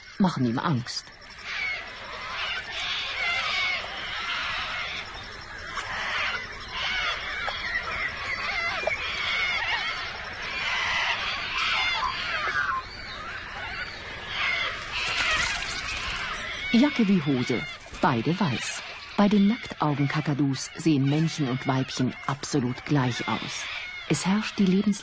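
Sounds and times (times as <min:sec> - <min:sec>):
flock of birds screeching: 0:00.0 - 0:25.0.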